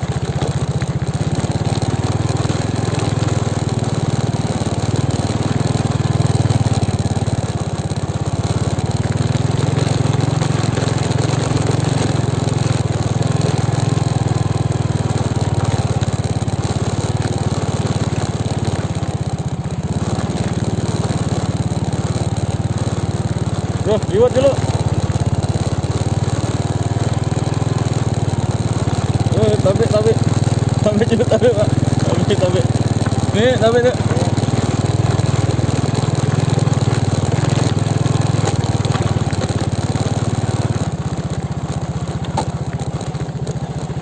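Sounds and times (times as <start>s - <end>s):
motorcycle engine running: 0.0s - 44.0s
road noise: 0.0s - 44.0s.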